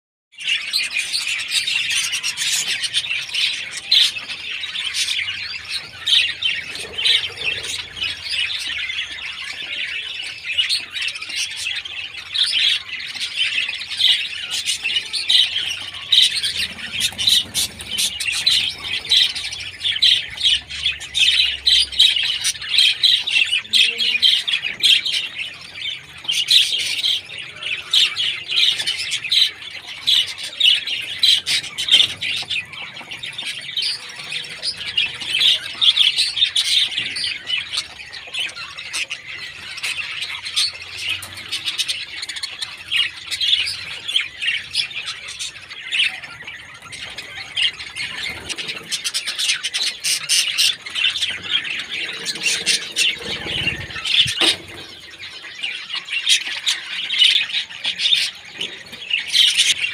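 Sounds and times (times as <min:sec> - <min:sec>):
budgerigars chirping: 0:00.4 - 0:59.9.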